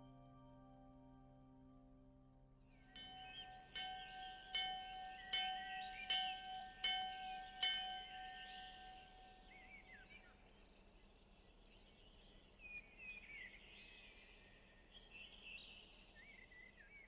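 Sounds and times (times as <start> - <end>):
small birds chirping: 2.6 - 17.0.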